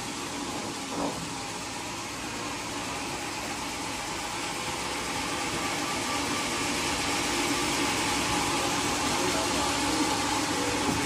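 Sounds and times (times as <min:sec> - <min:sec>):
machine engine drone with hiss: 0:00.0 - 0:11.0.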